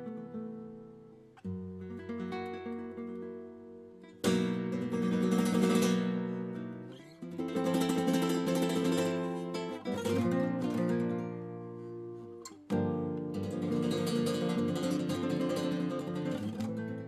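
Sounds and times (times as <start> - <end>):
nylon-string guitar strumming: 0.0 - 17.0.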